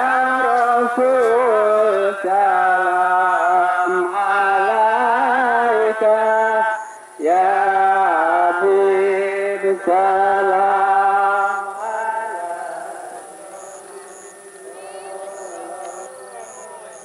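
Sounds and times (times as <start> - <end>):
devotional singing: 0.0 - 17.0.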